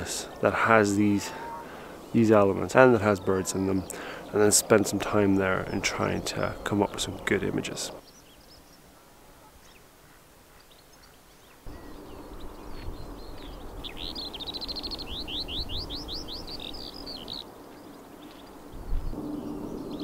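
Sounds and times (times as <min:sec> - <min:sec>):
soft bird chirps: 0:00.0 - 0:20.0
songbird singing: 0:00.0 - 0:20.0.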